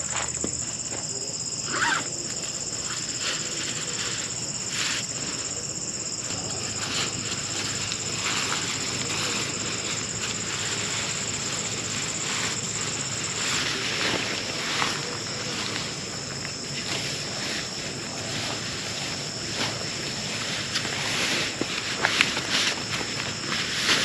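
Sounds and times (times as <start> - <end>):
high-pitched insect trill: 0.0 - 24.0.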